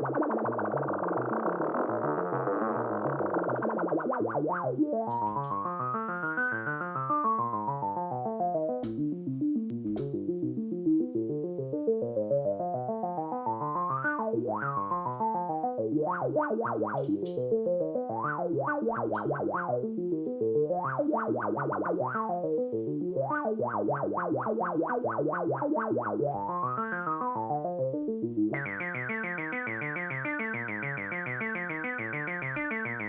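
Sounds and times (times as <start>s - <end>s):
synthesizer sequenced pattern: 0.0s - 33.0s.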